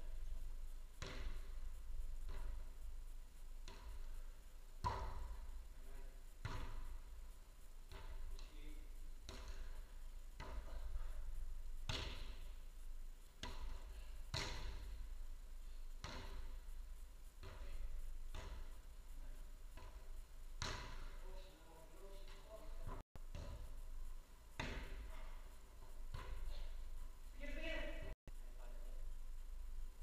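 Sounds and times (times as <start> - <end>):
ball thumps echoing in a hall: 0.2 - 7.2, 7.8 - 12.7, 13.3 - 16.7, 17.4 - 28.2.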